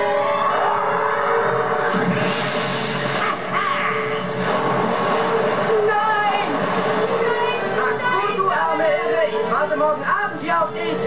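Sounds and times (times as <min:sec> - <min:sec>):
film soundtrack music: 0:00.0 - 0:11.0.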